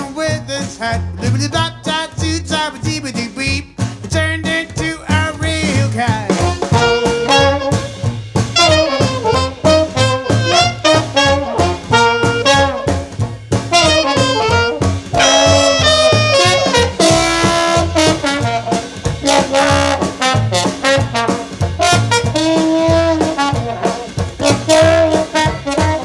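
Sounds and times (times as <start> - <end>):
swing jazz with brass section: 0.0 - 26.0.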